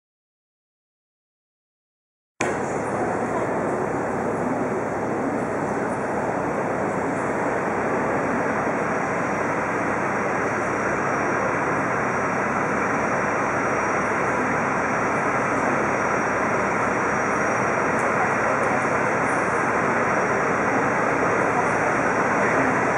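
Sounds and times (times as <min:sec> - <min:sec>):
high thin whine: 0:02.4 - 0:22.9
jet engines droning: 0:02.4 - 0:22.9.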